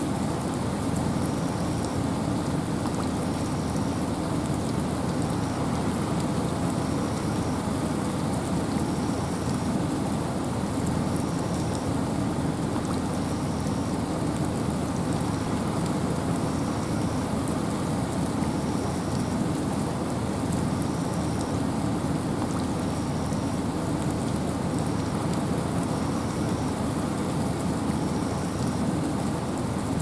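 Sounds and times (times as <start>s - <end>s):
rain: 0.0s - 30.0s
wind in a forest: 0.0s - 30.0s.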